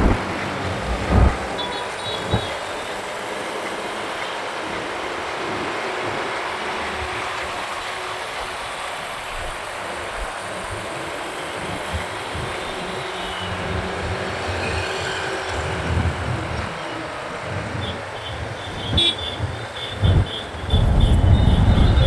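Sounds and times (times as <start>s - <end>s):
motorcycle wind and road noise: 0.0s - 6.9s, 9.8s - 22.0s.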